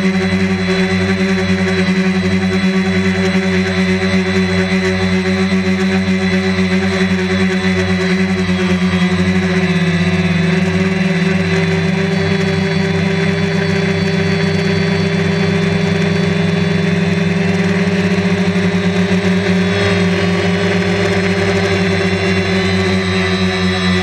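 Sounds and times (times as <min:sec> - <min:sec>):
drone propellers whirring: 0:00.0 - 0:24.0.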